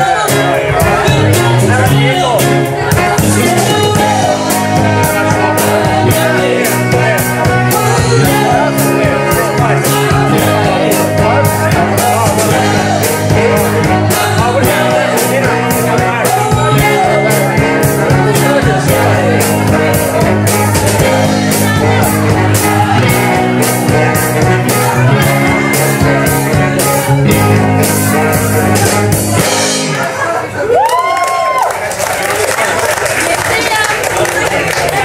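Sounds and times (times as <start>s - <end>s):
man singing lead: 0.0s - 30.5s
live band playing: 0.0s - 35.0s.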